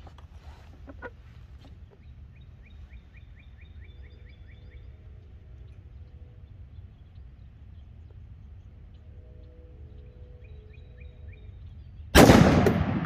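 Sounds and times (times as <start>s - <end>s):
steady low rumble: 0.0s - 13.0s
small bird chirping: 0.6s - 12.1s.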